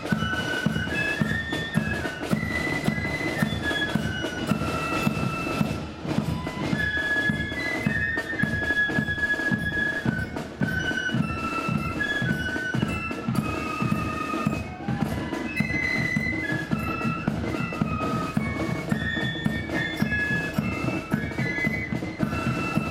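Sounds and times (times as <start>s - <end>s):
flutes playing melody in unison: 0.0s - 22.9s.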